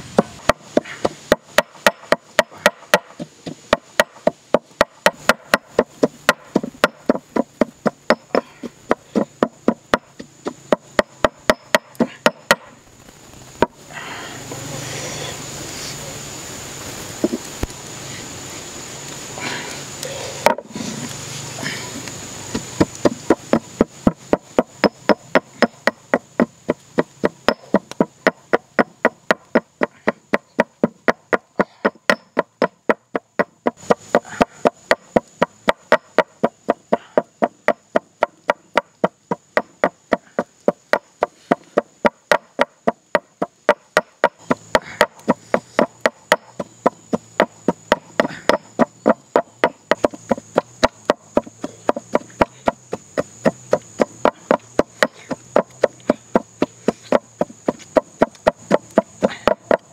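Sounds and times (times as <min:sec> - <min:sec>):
pestle pounding in mortar: 0:00.1 - 0:12.8, 0:20.4 - 0:20.7, 0:22.5 - 0:59.9.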